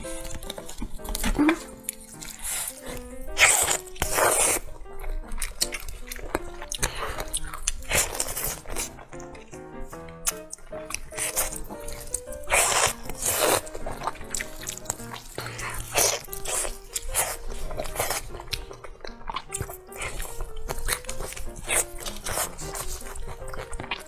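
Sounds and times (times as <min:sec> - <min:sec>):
background music melody: 0:00.0 - 0:24.0
biting and chewing meat: 0:00.0 - 0:24.0.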